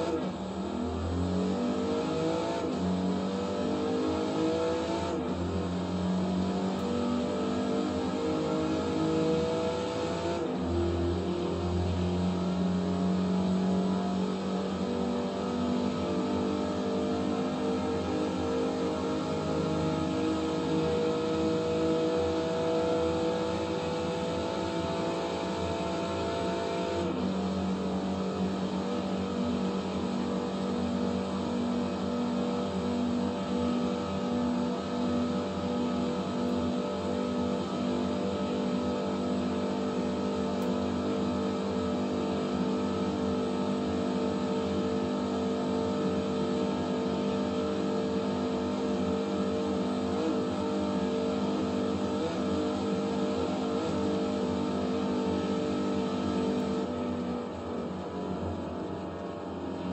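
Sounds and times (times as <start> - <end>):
car engine pulling hard: 0.0 - 59.7.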